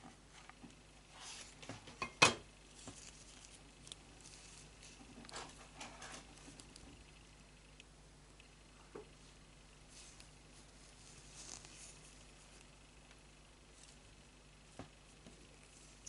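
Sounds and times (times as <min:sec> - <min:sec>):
yarn handling rustles: 0:00.2 - 0:02.0, 0:02.6 - 0:07.1, 0:09.2 - 0:16.0.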